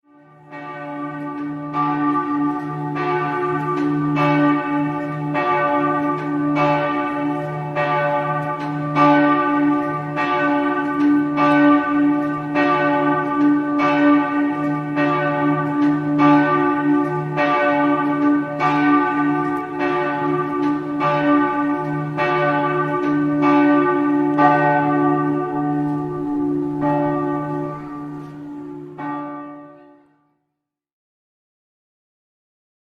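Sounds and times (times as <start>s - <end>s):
church bells ringing: 0.1s - 30.3s.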